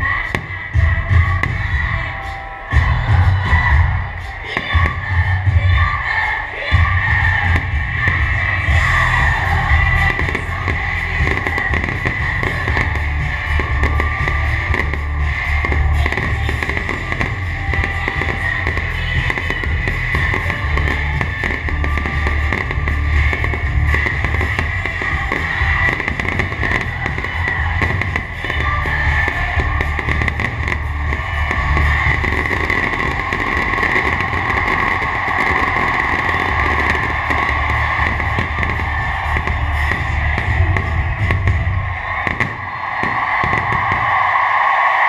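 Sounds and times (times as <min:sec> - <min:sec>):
fireworks bursting: 0:07.0 - 0:44.8.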